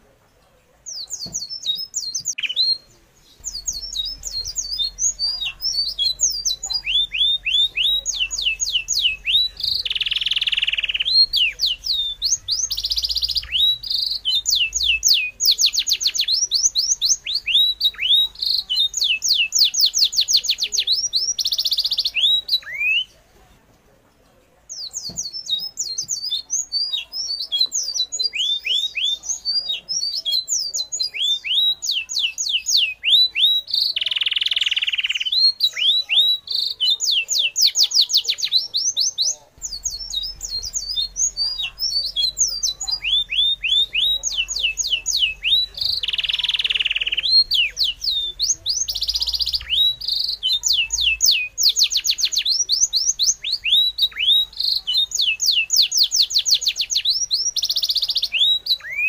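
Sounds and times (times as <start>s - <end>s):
birds chirping: 0.0s - 23.4s, 24.1s - 59.0s.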